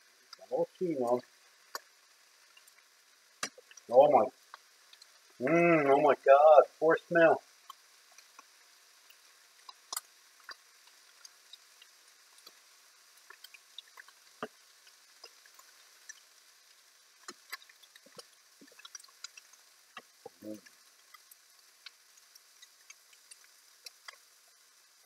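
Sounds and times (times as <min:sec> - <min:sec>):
sausages frying with pops: 0:00.0 - 0:25.0.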